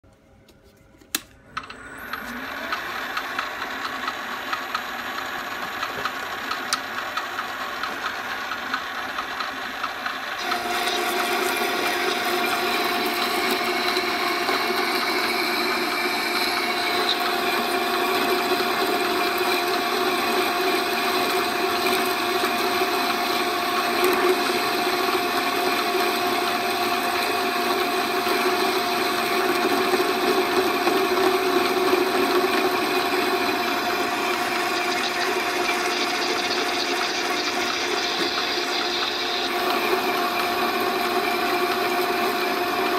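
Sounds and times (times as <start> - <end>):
lathe motor running: 1.7 - 42.9
lathe tool cutting metal: 2.0 - 42.9.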